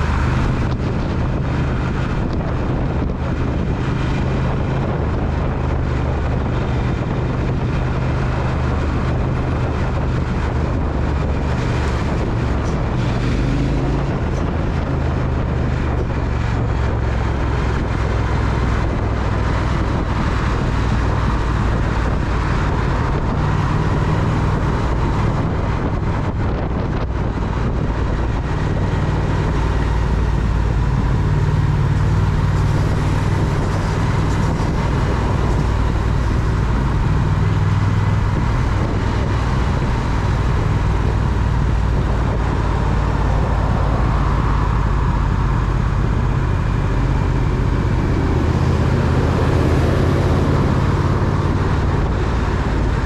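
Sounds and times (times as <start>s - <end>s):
road noise: 0.0s - 53.0s
wind noise: 0.0s - 53.0s.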